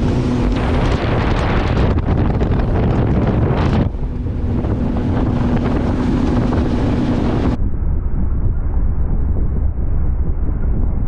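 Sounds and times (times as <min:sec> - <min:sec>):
outboard engine drone: 0:00.0 - 0:11.0
wind buffeting microphone: 0:00.0 - 0:11.0.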